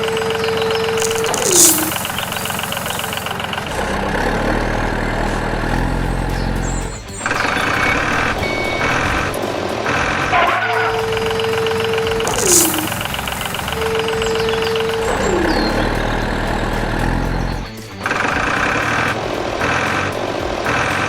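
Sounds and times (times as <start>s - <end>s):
background music: 0.0s - 21.0s
construction vehicle engine running: 0.0s - 21.0s.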